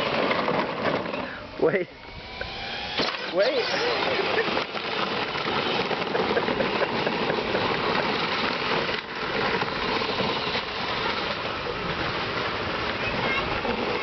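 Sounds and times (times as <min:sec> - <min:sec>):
cooling fans whirring: 0:00.0 - 0:14.0
electric ride-on car motors whirring: 0:00.0 - 0:14.0.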